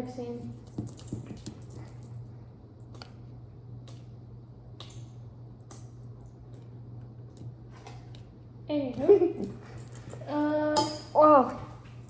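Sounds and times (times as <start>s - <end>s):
steady low hum: 0.0s - 12.0s
batter squishing in a bowl: 0.5s - 12.0s.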